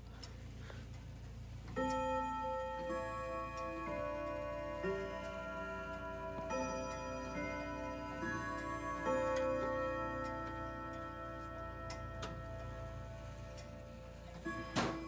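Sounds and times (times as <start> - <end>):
clock ticking: 0.0 - 15.0
clock chime melody: 1.7 - 15.0.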